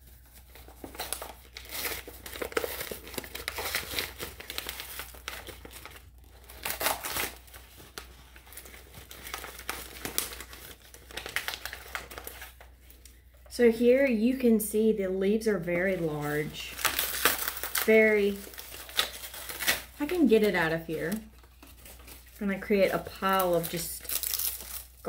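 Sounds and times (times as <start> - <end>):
paper crinkling and rustling: 0.0 - 13.5, 15.6 - 25.0.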